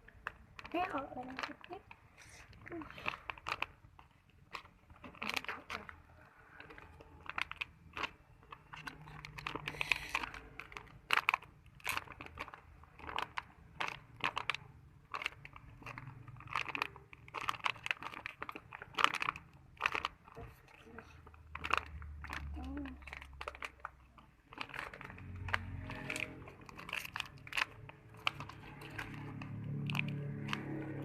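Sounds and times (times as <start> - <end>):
crinkling and crunching handling noise: 0.0 - 31.0.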